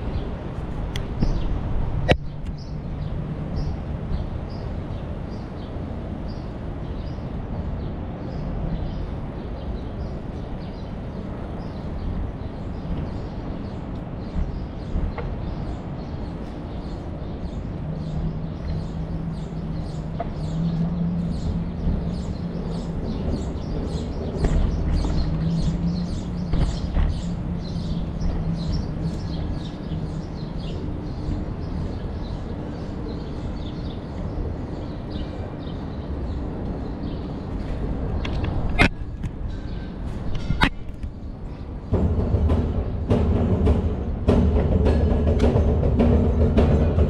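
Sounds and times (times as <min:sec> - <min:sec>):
flock of birds chirping: 0:00.0 - 0:47.0.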